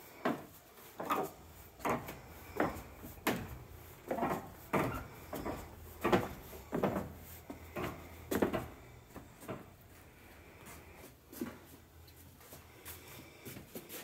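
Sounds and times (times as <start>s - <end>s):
footsteps on plywood floor: 0.2s - 14.0s.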